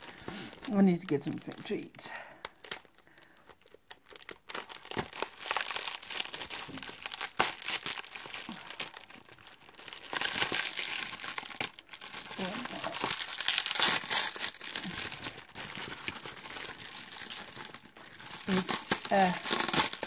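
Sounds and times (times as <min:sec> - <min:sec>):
packaging crinkling: 0:00.0 - 0:20.0.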